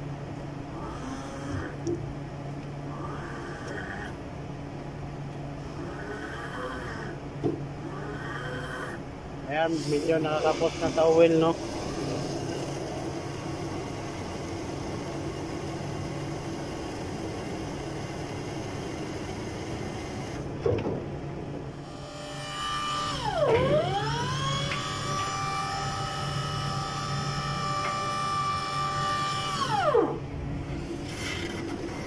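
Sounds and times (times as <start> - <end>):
hydraulic pump motor humming: 0.0 - 32.0
pump whine: 0.0 - 32.0.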